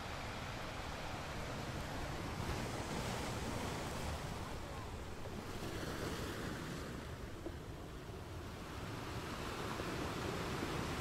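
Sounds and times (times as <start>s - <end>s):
ocean waves and surf: 0.0s - 11.0s.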